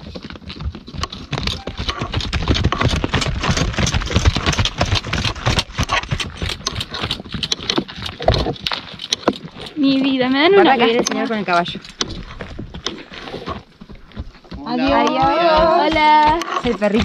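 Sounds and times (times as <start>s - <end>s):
hooves clopping on stony trail: 0.0s - 17.0s.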